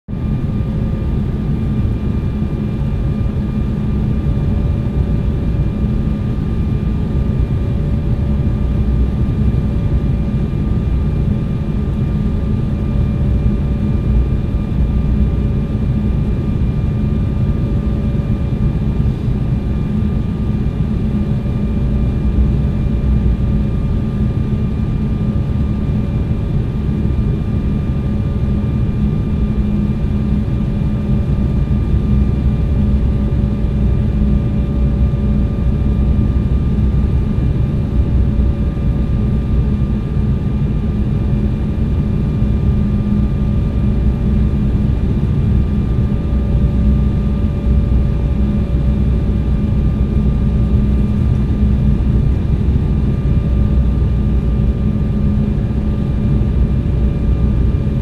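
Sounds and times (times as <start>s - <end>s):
jet engine rumble: 0.1s - 58.0s
faint steady whine: 0.2s - 58.0s.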